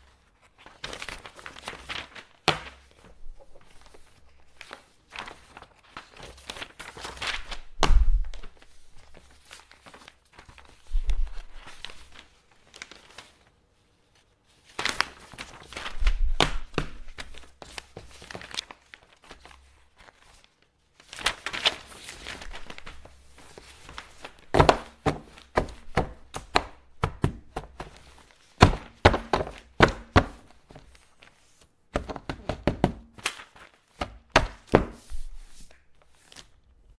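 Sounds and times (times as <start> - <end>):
paper rustling and crinkling: 0.0 - 36.9.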